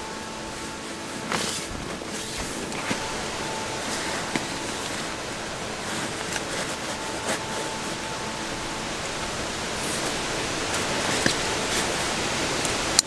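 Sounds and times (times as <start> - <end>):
nylon sack rustling: 0.0 - 13.0
wind blowing around a tent: 0.0 - 13.0.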